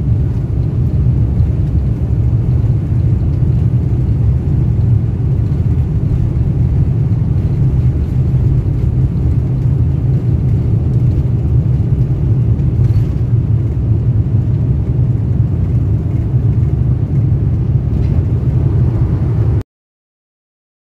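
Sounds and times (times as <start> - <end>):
airframe rumbling: 0.0 - 19.6
jet engines at takeoff power: 0.0 - 19.6.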